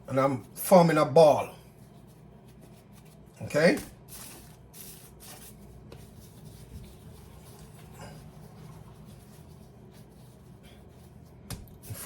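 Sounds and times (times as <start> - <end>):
low steady hum: 0.0 - 12.0
hands rolling dough on paper: 1.7 - 12.0.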